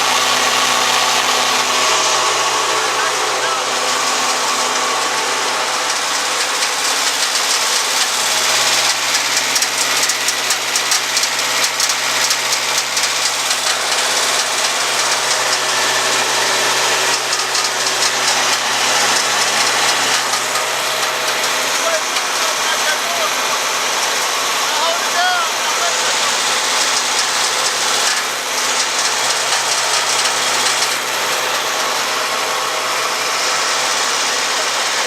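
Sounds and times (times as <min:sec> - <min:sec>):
stump grinder engine running: 0:00.0 - 0:35.0.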